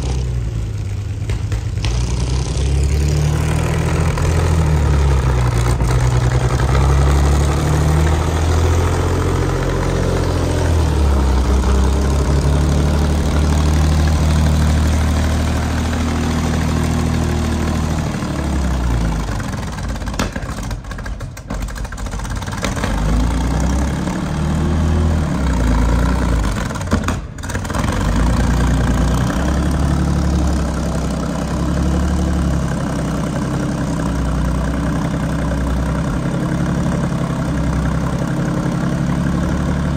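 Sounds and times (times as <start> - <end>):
engine running rough revving: 0.0 - 20.9, 21.6 - 39.9.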